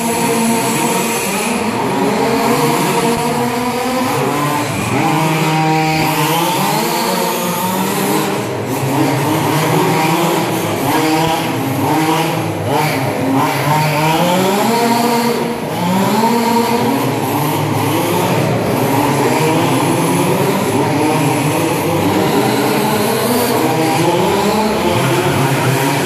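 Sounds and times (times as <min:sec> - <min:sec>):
rc car motors revving: 0:00.0 - 0:26.0.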